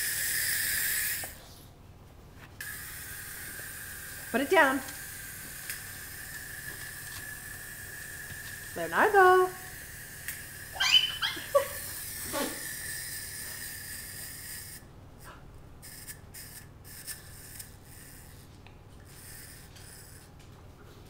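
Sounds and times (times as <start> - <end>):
wind-up toy motor whirring: 0.0 - 1.4, 2.6 - 14.8, 15.8 - 18.3, 19.1 - 20.2.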